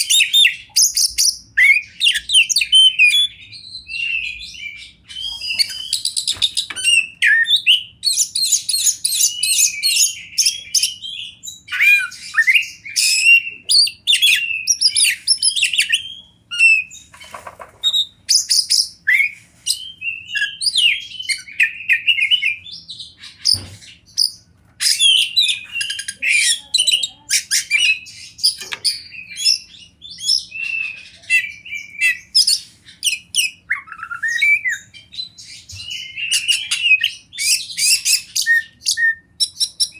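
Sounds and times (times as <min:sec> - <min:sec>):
bird singing chirps and whistles: 0:00.0 - 0:17.1, 0:17.9 - 0:39.9.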